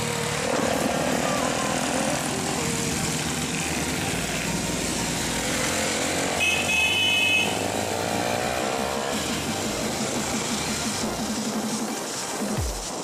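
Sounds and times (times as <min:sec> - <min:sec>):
other motorcycles riding by: 0:00.0 - 0:11.7
motorcycle engine running: 0:00.0 - 0:12.8.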